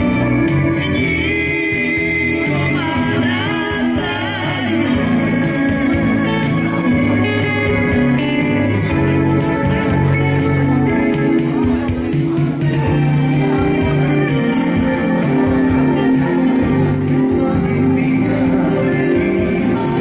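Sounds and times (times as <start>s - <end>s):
electronic keyboards: 0.0s - 20.0s
man singing: 0.0s - 20.0s
steady dance beat: 3.0s - 20.0s.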